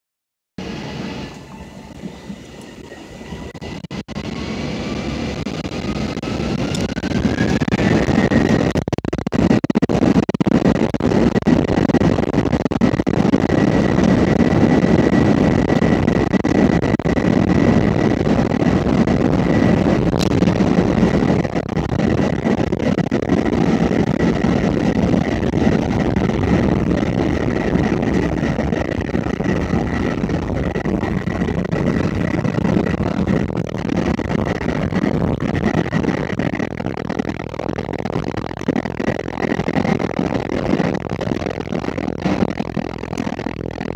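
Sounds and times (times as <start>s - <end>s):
jet engine roar: 0.6s - 37.1s
jet engine whine: 0.6s - 43.9s.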